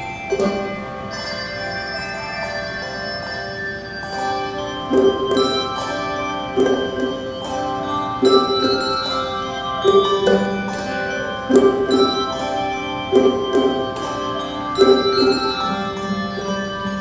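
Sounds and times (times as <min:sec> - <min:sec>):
handbell choir ringing chords: 0:00.0 - 0:17.0.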